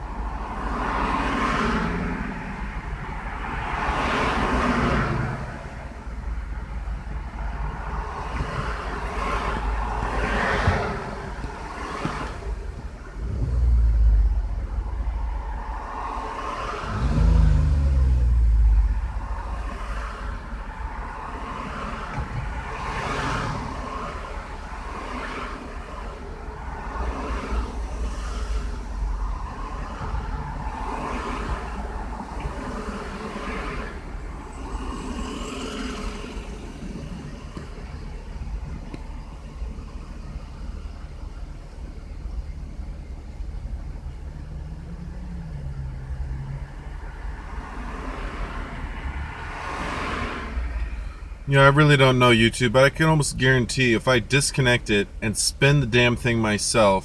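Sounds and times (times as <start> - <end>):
car engine idling high: 0.0 - 57.0.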